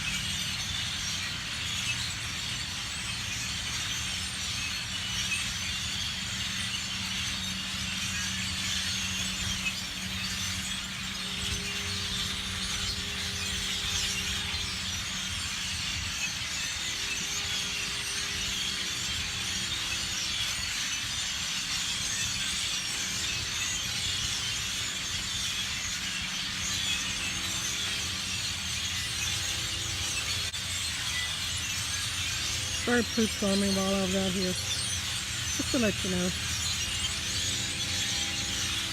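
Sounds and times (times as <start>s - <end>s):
flock of birds chattering: 0.0s - 38.9s.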